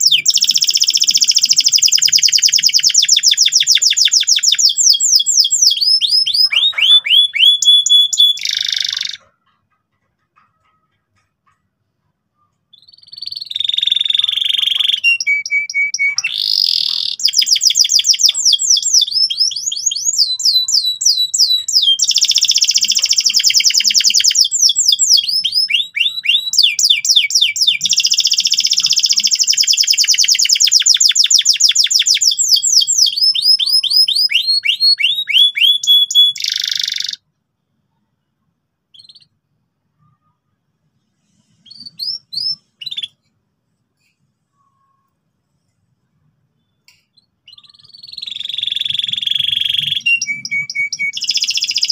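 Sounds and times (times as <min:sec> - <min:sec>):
canary singing trills: 0:00.0 - 0:37.2, 0:38.9 - 0:43.3, 0:44.0 - 0:51.9.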